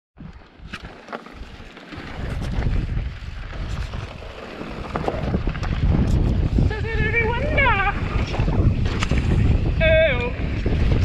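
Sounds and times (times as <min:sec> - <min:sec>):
wind buffeting microphone: 0:01.4 - 0:11.0.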